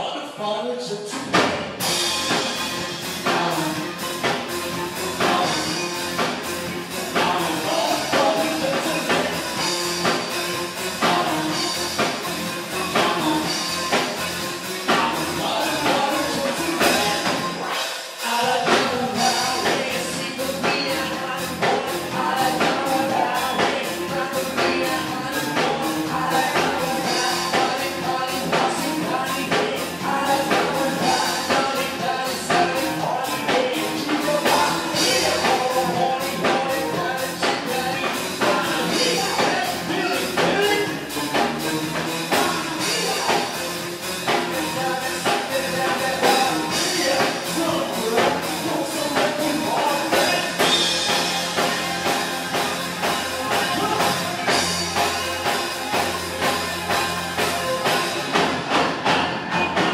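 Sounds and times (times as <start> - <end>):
live band playing dance-rock: 0.0 - 59.9
female lead vocals: 3.0 - 59.9.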